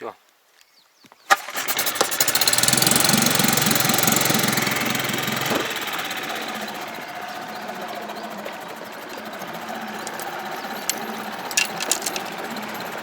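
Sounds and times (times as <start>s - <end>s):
motor starter click: 1.3s - 13.0s
boat motor running: 1.4s - 13.0s.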